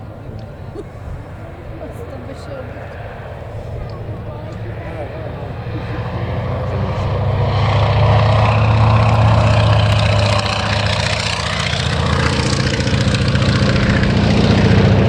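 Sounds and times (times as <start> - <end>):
piston aircraft engine and propeller: 0.0 - 15.0.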